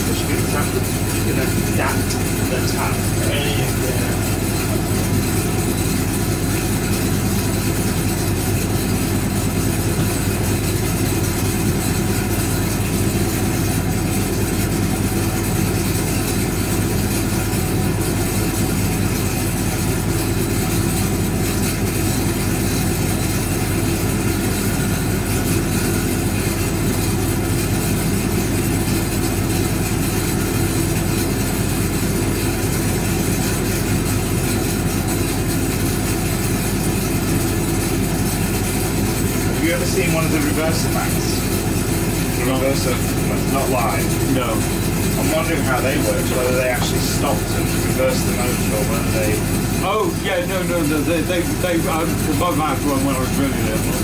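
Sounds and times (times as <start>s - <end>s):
washing machine running: 0.0s - 54.0s.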